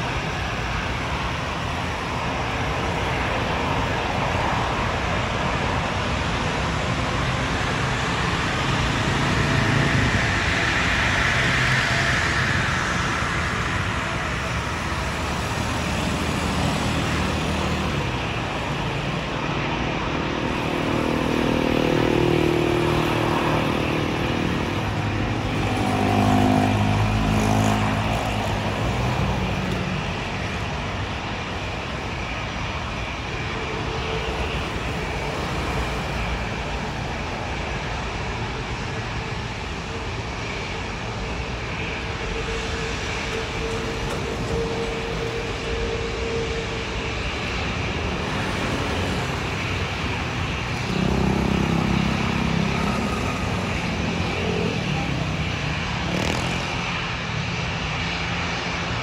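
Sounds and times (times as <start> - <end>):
jet engines taxiing: 0.0 - 59.0
road traffic: 0.0 - 59.0.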